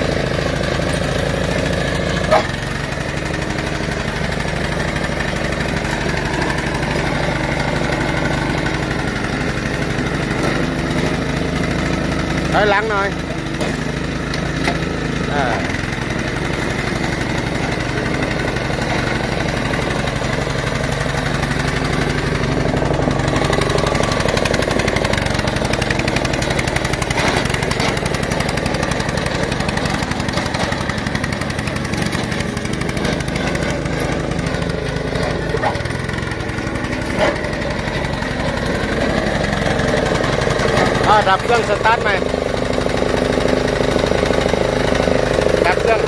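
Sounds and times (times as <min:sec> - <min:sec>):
small engine running: 0:00.0 - 0:46.0.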